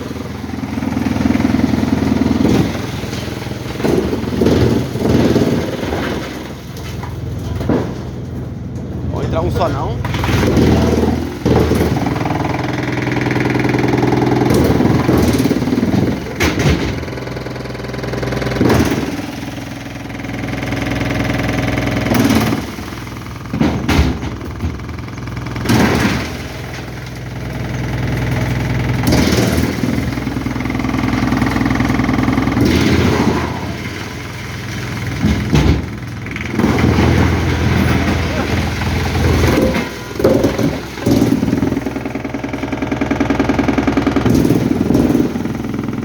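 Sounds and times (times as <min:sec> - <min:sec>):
wood chipper engine running: 0:00.0 - 0:46.0
wood crunching in chipper: 0:00.0 - 0:46.0.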